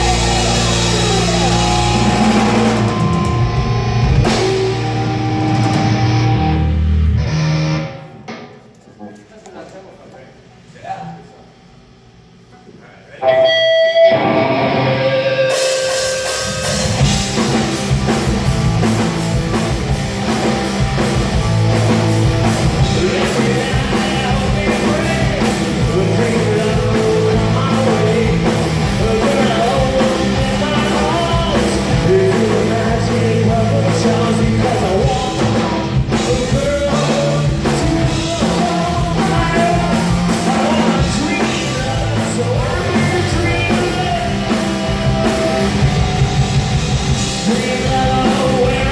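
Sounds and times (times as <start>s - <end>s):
punk rock band with singing: 0.0s - 7.7s, 13.2s - 48.9s.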